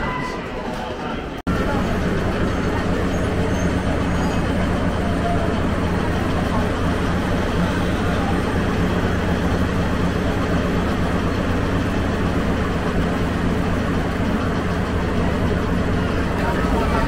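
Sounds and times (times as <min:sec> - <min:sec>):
vehicle engine running: 0:01.5 - 0:17.0.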